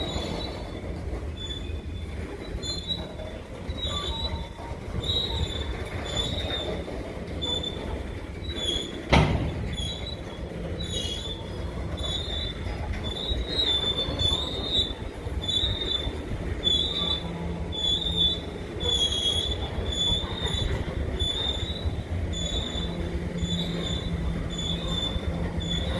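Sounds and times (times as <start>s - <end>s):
freight train rumbling past: 0.0s - 25.9s
wheel flanges squealing: 0.0s - 25.9s.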